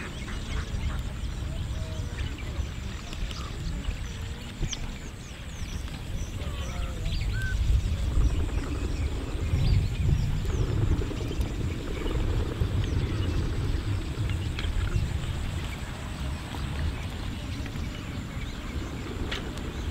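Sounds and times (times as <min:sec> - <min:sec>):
birds chirping: 0:00.0 - 0:19.9
steady low rumble: 0:00.0 - 0:19.9.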